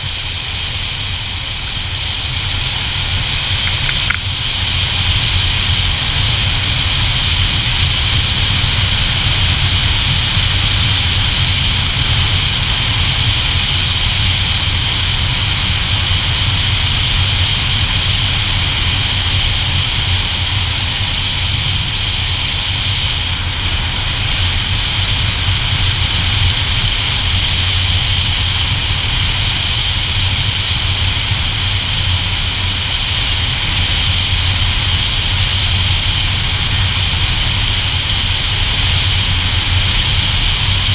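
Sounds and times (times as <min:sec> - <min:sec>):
motorcycle engine running evenly: 0:00.0 - 0:40.9
wind noise: 0:00.0 - 0:40.9.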